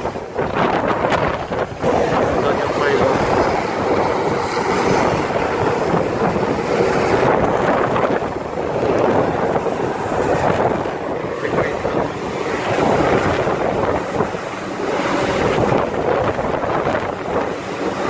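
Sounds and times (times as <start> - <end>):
helicopter in flight: 0.0 - 18.0.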